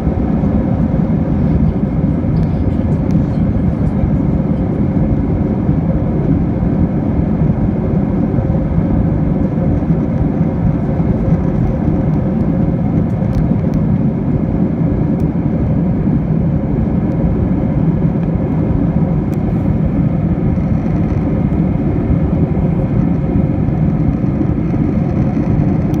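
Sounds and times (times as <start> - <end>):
jet engines roaring in cabin: 0.0 - 26.0.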